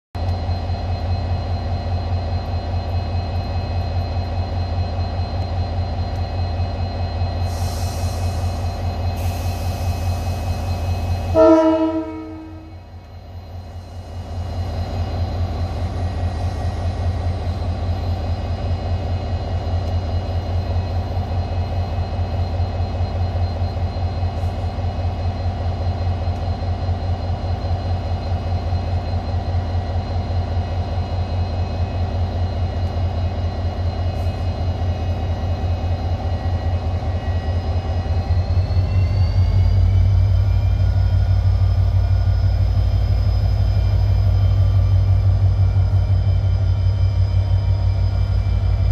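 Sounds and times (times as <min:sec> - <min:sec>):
diesel locomotive engine idling: 0:00.2 - 0:48.9.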